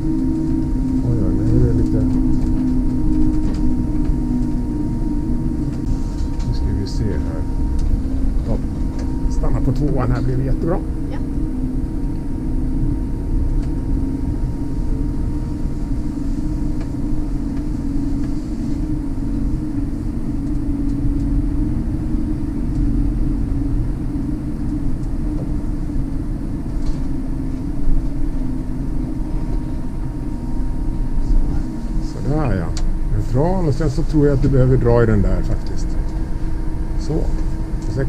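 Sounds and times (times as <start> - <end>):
electric bus rumble: 0.0 - 38.0
faint steady hum: 0.0 - 38.0.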